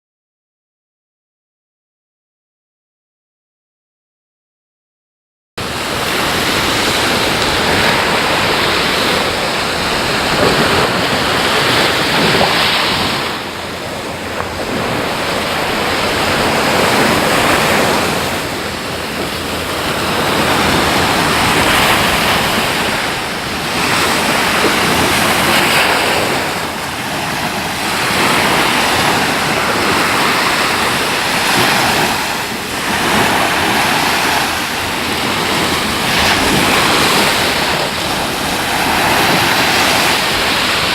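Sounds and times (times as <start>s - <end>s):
surf breaking on a beach: 5.6s - 40.9s
wind on the microphone: 5.6s - 40.9s.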